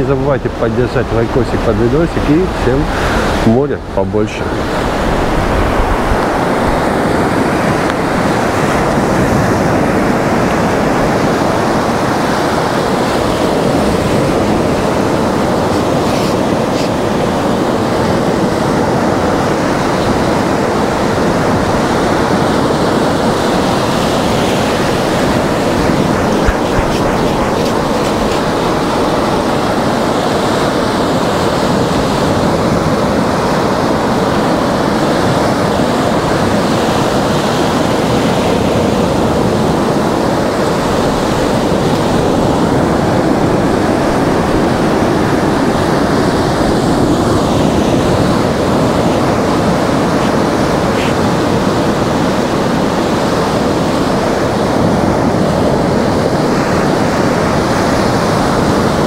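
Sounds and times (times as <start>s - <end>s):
surf breaking on beach: 0.0s - 59.0s.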